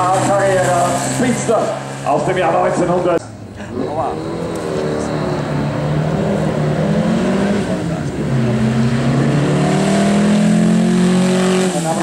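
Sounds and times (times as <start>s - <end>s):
car engine driving past: 0.0s - 12.0s.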